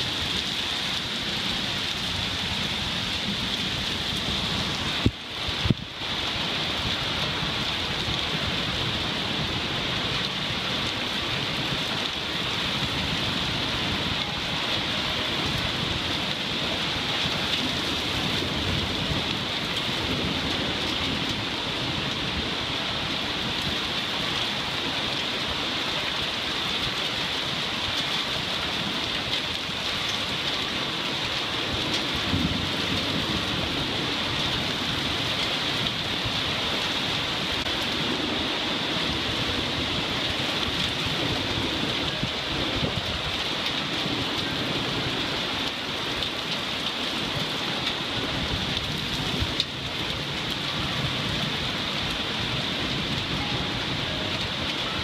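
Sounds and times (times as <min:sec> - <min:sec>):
thunder rumbling: 0:00.0 - 0:23.9, 0:29.8 - 0:55.0
heavy rain pouring: 0:00.0 - 0:55.0.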